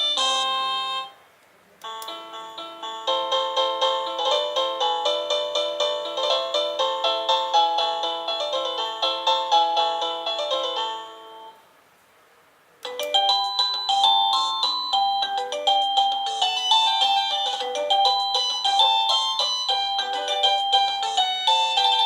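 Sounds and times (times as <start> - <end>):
electronic doorbell chime melody: 0.0 - 1.2, 1.8 - 11.6, 12.9 - 22.0.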